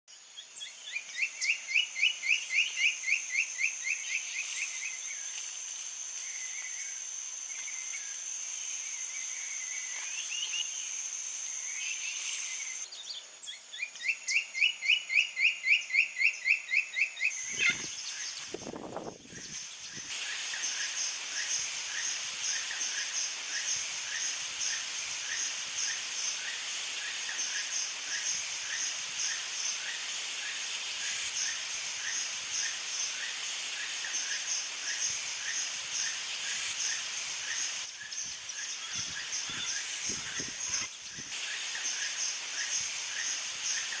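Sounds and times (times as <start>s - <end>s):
high hissing insect buzz: 0.2s - 44.0s.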